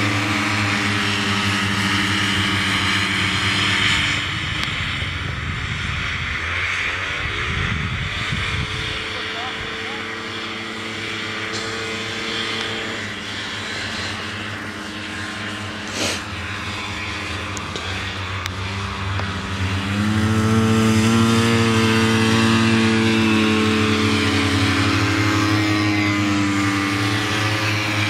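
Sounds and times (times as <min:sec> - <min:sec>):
snowmobile engines racing: 0:00.0 - 0:28.0.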